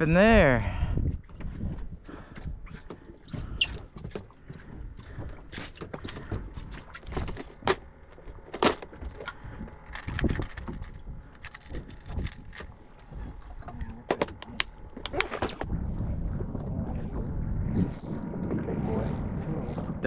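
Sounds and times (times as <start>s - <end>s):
low rumble of wind and water: 0.0s - 20.0s.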